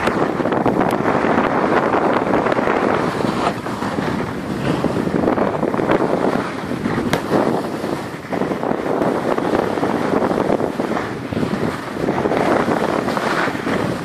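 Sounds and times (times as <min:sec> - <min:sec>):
skis sliding on packed snow: 0:00.0 - 0:14.0
wind rushing over microphone: 0:00.0 - 0:14.0.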